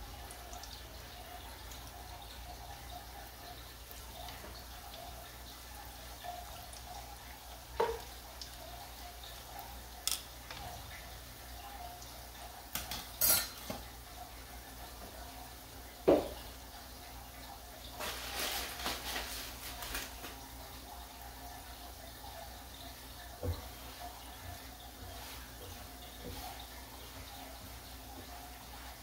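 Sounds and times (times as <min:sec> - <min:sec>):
oil sizzling: 0:00.0 - 0:29.0.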